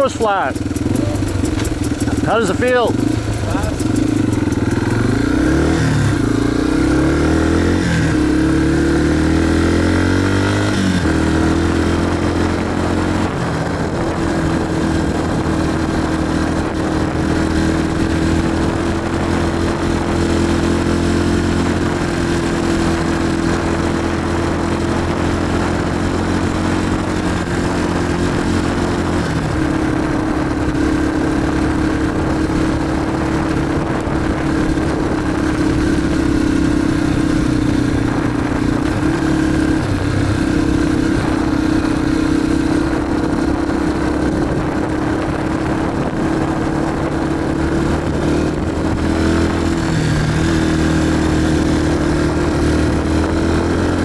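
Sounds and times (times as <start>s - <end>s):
dirt bike engine pulling away: 0.0s - 54.0s.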